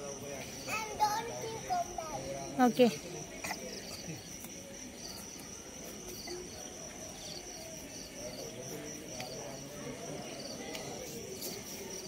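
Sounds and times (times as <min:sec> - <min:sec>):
crickets trilling: 0:00.0 - 0:12.0
pulsed cricket chirps: 0:00.0 - 0:12.0.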